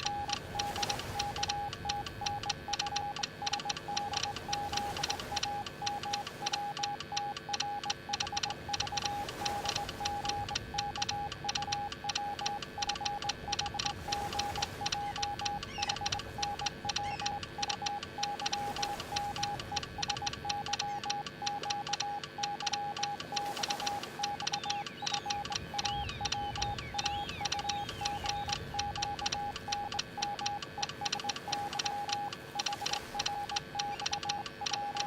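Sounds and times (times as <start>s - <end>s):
morse code tone: 0.0s - 35.0s.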